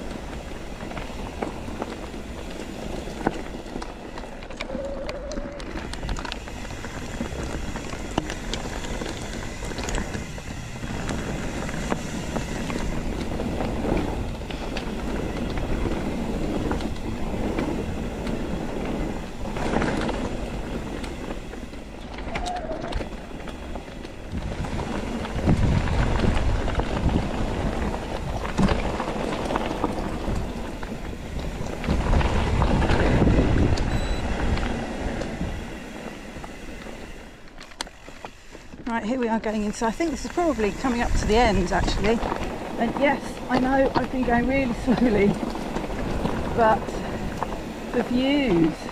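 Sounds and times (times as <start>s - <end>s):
wind buffeting microphone: 0.0s - 37.5s, 38.6s - 48.9s
bike rattling and knocking: 0.0s - 48.9s
bike tyre noise: 0.0s - 48.9s.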